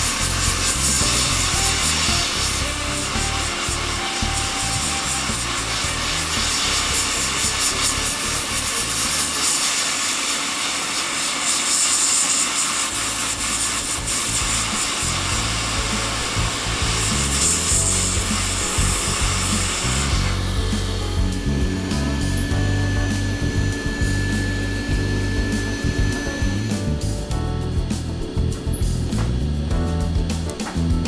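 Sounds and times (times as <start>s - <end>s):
background music: 0.0s - 9.4s, 13.2s - 31.0s
hot-air tool hissing: 0.0s - 29.6s.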